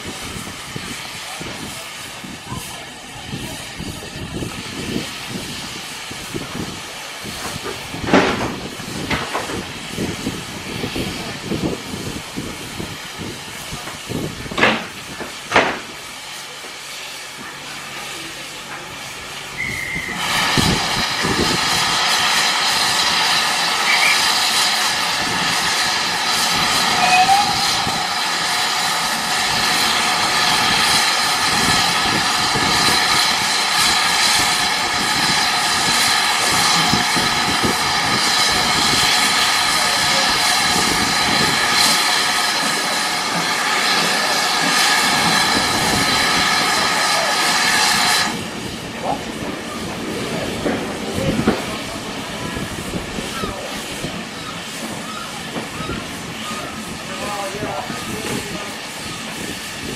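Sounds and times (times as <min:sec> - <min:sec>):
steam locomotive hissing: 0:00.0 - 0:59.9.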